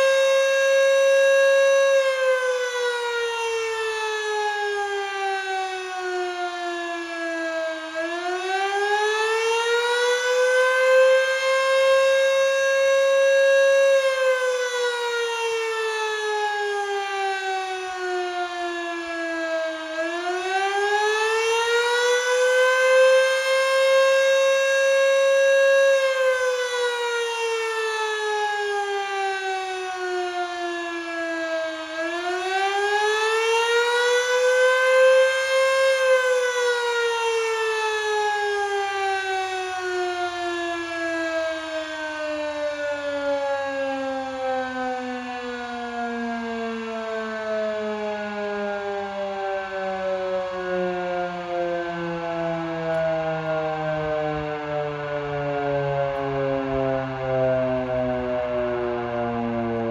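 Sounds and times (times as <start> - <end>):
warning siren wailing: 0.0 - 59.9.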